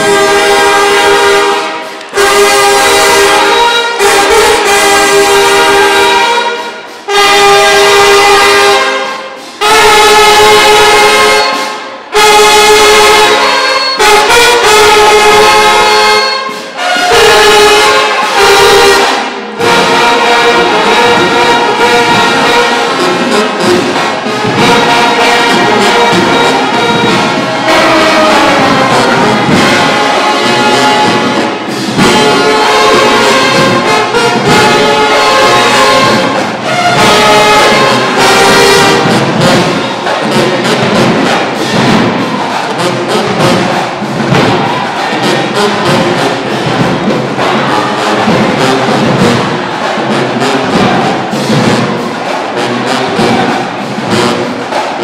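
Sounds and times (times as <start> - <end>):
marching band horns playing chords: 0.0 - 55.0.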